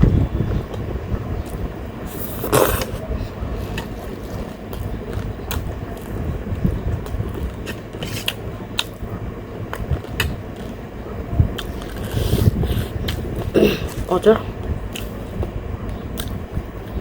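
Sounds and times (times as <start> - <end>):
electric fan running: 0.0 - 17.0
chewing and mouth sounds: 1.4 - 9.1, 9.7 - 10.8, 11.4 - 17.0.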